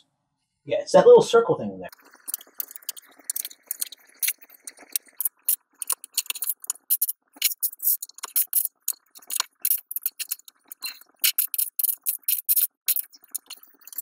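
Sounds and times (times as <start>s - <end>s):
bricks clicking together: 1.9s - 14.0s.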